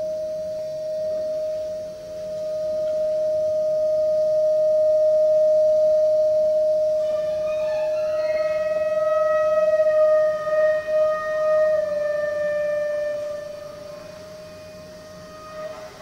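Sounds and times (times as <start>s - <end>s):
ensemble holding long note: 0.0s - 16.0s
higher held notes: 0.0s - 16.0s.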